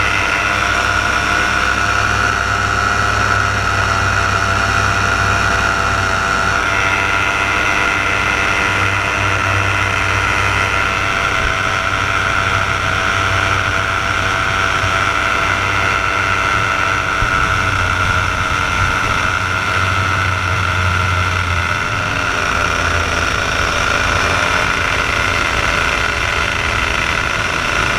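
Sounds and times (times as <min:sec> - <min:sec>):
paramotor engine droning: 0:00.0 - 0:27.9.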